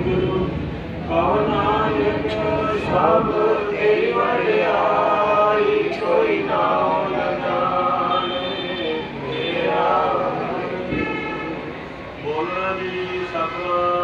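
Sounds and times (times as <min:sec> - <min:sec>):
voices chanting a prayer: 0:00.0 - 0:14.0.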